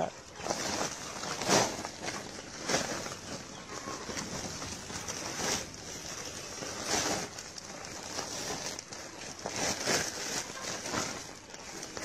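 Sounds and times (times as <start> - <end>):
plastic sack rustling: 0.2 - 12.0.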